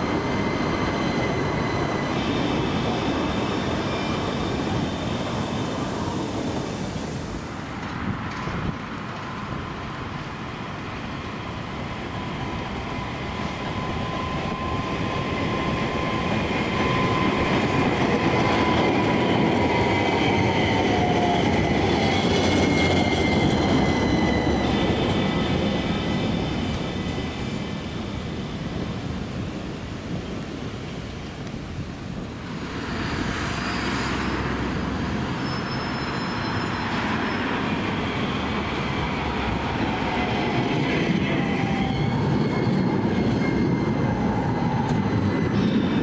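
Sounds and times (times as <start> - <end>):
tram passing: 0.0 - 46.0.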